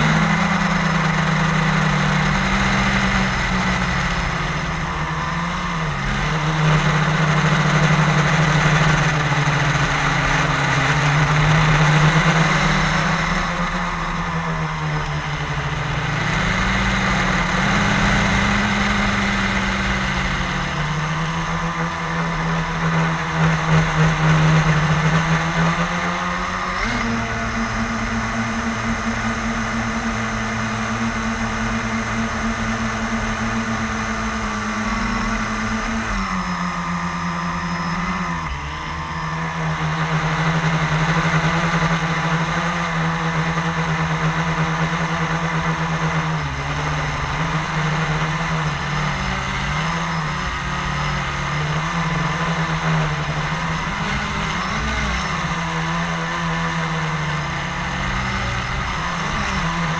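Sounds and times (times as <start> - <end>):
quadcopter motors buzzing: 0.0 - 59.9.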